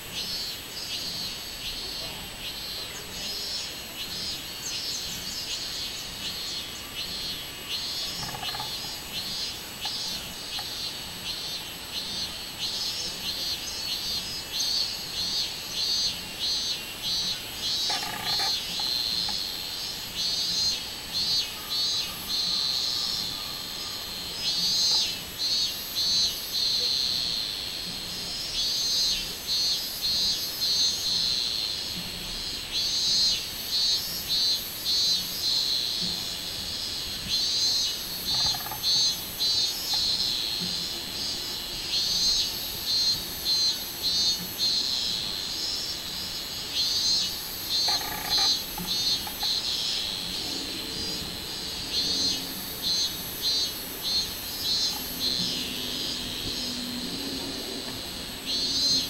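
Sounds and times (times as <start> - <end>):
cicada singing: 0.0 - 59.0
high buzzing hiss: 0.0 - 59.0.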